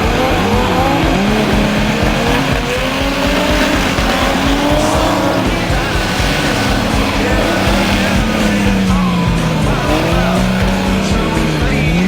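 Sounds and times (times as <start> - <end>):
racing car engines accelerating: 0.0 - 12.0.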